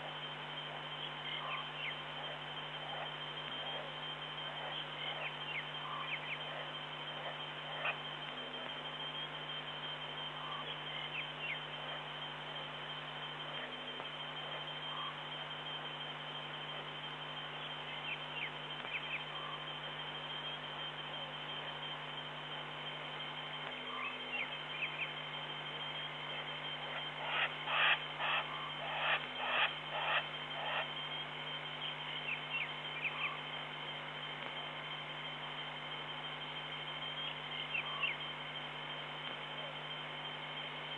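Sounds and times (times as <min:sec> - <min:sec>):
faint chirps: 0:00.0 - 0:40.9
steady night hum: 0:00.0 - 0:40.9.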